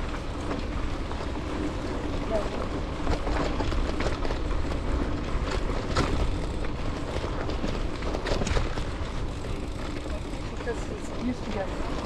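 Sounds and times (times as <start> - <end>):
bike rattling over bumps: 0.0 - 12.0
bike tyres rolling on dirt: 0.0 - 12.0.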